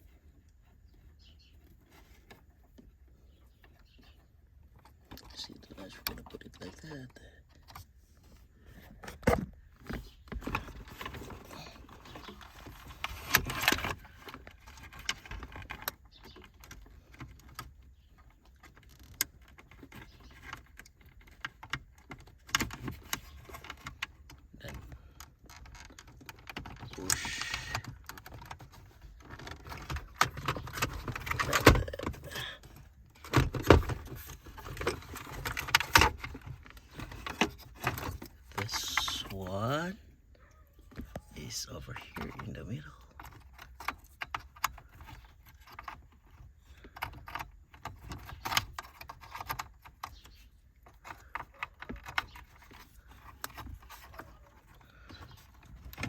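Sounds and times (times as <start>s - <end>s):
plastic dashboard parts clicking: 0.0s - 56.0s.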